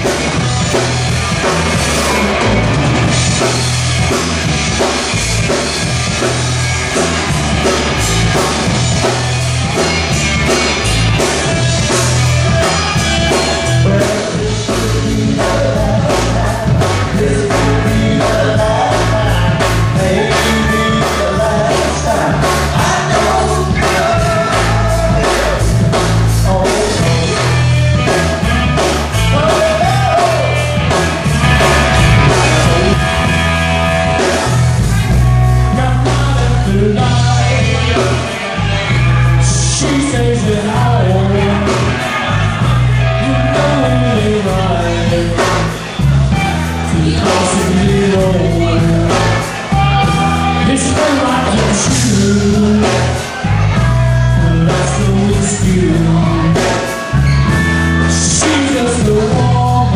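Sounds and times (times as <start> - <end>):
live rock band playing: 0.0 - 59.9
person singing: 9.0 - 59.9.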